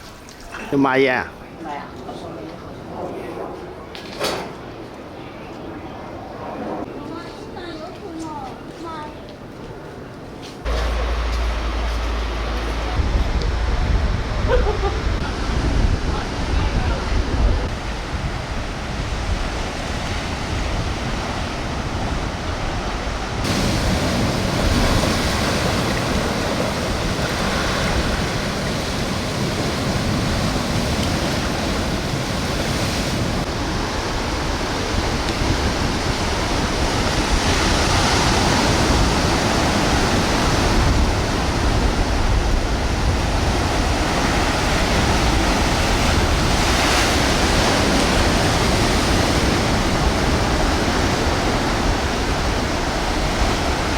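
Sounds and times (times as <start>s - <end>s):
wind rumbling on microphone: 1.3s - 53.9s
sea surf washing onto beach: 10.7s - 53.9s.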